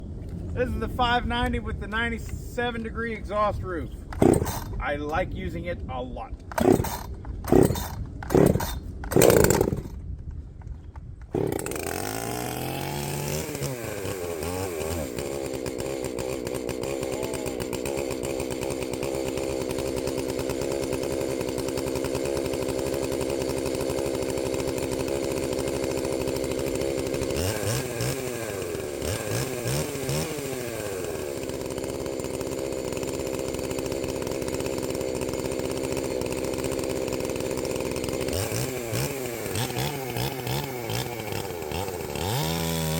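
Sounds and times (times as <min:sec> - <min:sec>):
small gasoline engine revving: 0:04.1 - 0:05.2, 0:06.5 - 0:10.0, 0:11.3 - 0:42.9.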